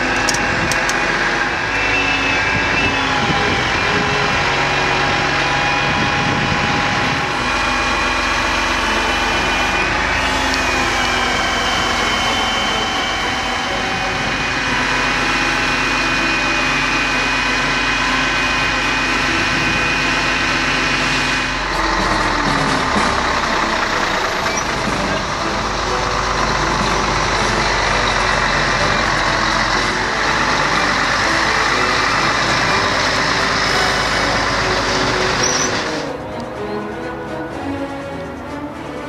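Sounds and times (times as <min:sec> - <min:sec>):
diesel truck engine: 0:00.0 - 0:39.0
road noise: 0:00.0 - 0:39.0.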